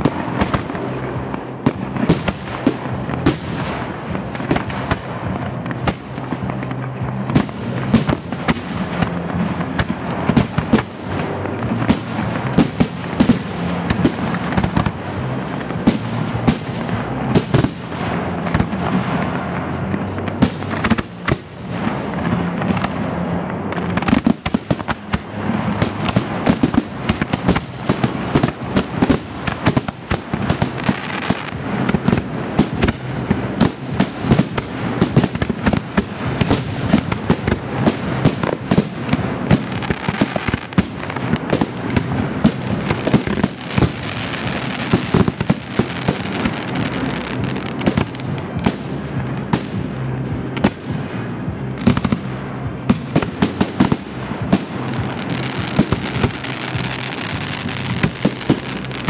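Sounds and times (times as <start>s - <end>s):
fireworks bursting and crackling: 0.0s - 59.0s
low rumble: 0.0s - 59.0s.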